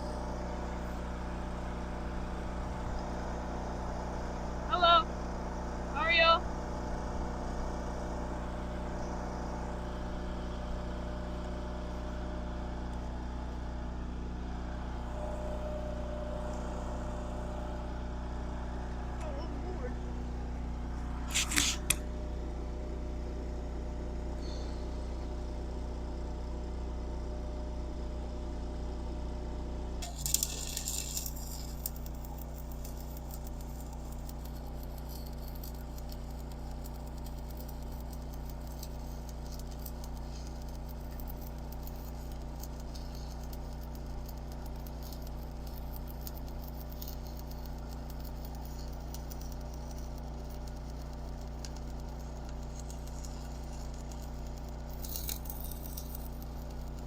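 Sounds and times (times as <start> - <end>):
arc welder crackling: 0.0 - 24.4, 29.8 - 57.0
electrical hum: 0.0 - 57.0.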